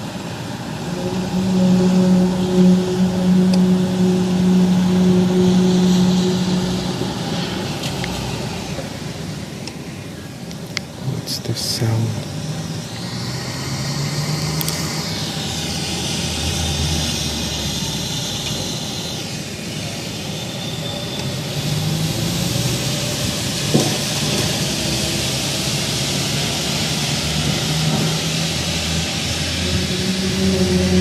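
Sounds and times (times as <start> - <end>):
low droning hum: 0.0 - 19.9, 21.4 - 31.0.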